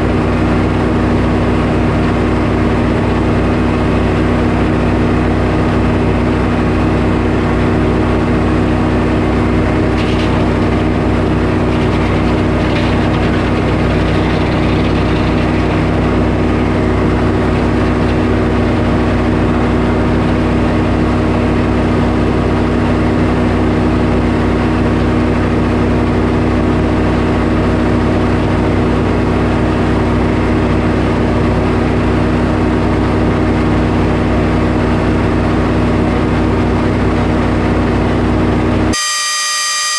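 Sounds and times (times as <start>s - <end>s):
sawmill engine running: 0.0s - 38.1s.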